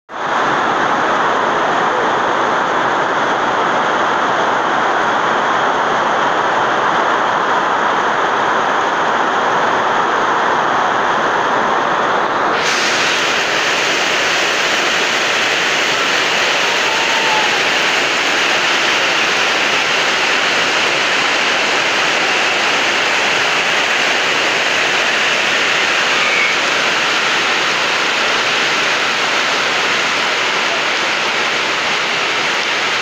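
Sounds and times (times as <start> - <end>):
heavy rain on trees and dirt: 0.1 - 33.0.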